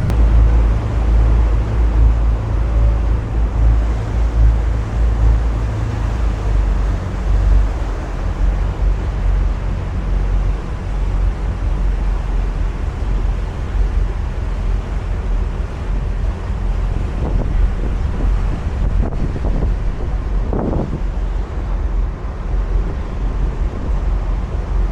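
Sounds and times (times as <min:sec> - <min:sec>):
boat engine rumbling: 0:00.0 - 0:24.9
rushing water: 0:00.0 - 0:24.9
wind noise: 0:00.0 - 0:24.9.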